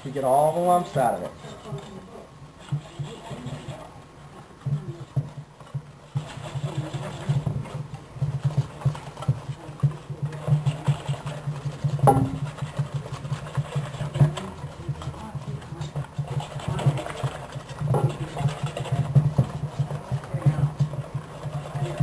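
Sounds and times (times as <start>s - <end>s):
batter being mixed in a bowl: 0.0s - 22.0s.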